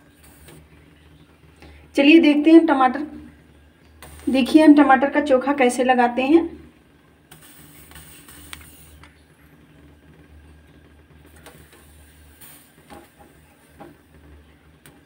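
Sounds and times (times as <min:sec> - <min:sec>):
gas burner low rumble: 0:00.0 - 0:15.0.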